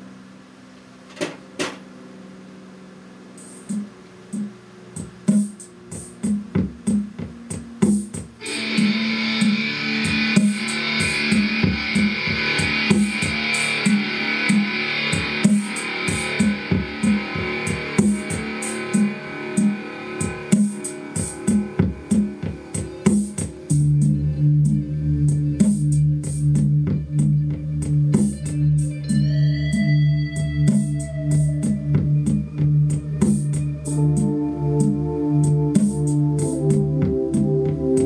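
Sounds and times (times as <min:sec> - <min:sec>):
music with beat and plucked guitar: 0:03.3 - 0:38.0.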